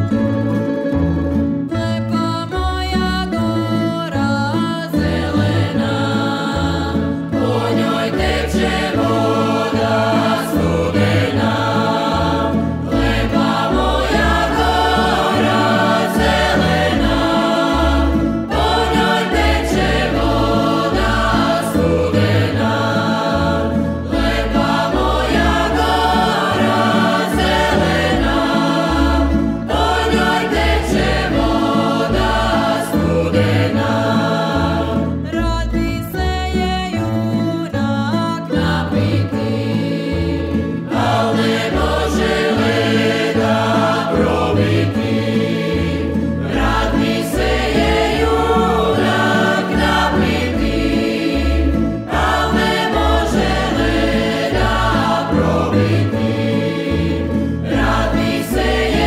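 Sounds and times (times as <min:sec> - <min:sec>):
choir singing folk song: 0:00.0 - 0:59.0
instrumental accompaniment: 0:00.0 - 0:59.0.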